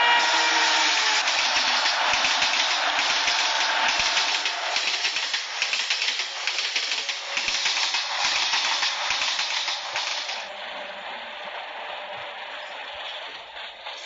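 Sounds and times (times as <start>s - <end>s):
train clattering on rails: 0.0s - 14.0s.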